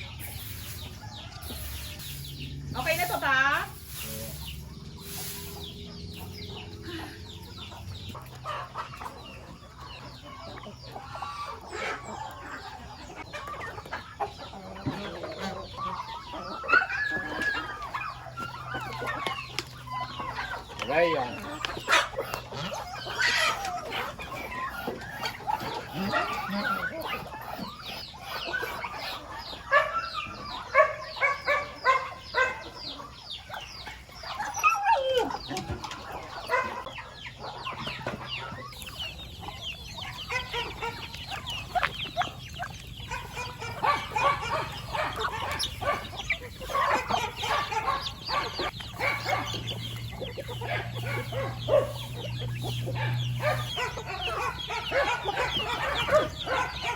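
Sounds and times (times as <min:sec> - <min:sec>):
chickens clucking: 0:00.0 - 0:56.9.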